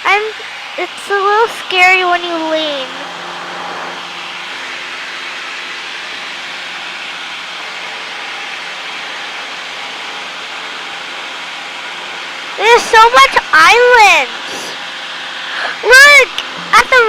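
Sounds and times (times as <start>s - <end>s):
aircraft engine and propeller drone: 0.0s - 17.0s.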